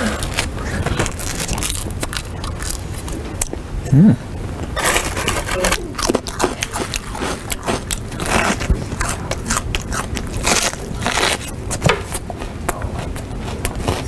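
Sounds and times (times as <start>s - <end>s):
person chewing crunchy food: 0.0s - 3.6s, 4.7s - 14.0s.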